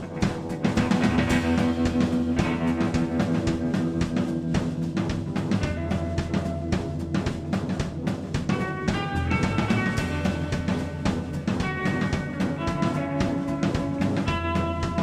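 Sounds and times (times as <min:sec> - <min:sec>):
drum kit beat: 0:00.0 - 0:15.0
electric blues band playing: 0:00.0 - 0:15.0.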